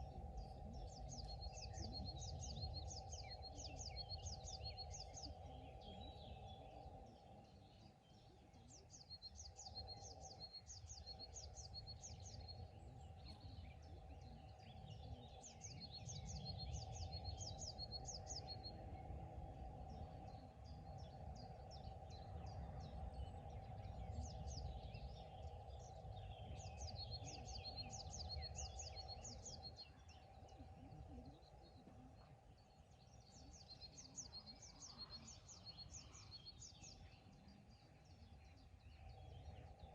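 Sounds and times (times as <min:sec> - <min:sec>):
faint hum: 0:00.0 - 0:39.9
songbird singing: 0:00.0 - 0:39.9.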